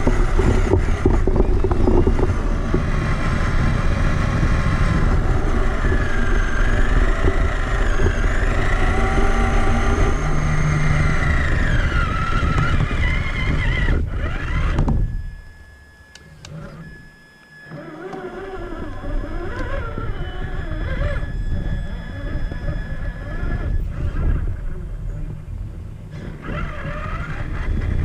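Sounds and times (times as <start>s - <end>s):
tyre and chassis rumble: 0.0s - 15.6s, 17.7s - 28.0s
electric motor and gear whine: 0.0s - 28.0s.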